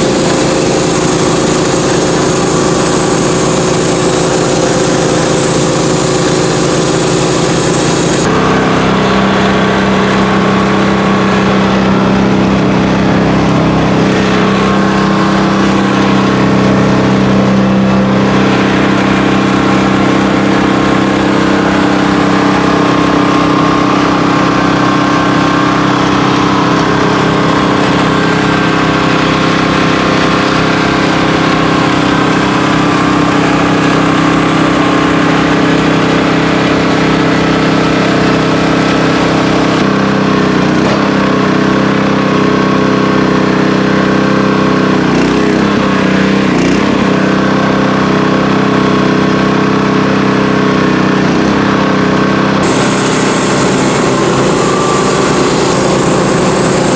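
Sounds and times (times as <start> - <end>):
sawmill engine running: 0.0 - 42.1, 52.6 - 56.9.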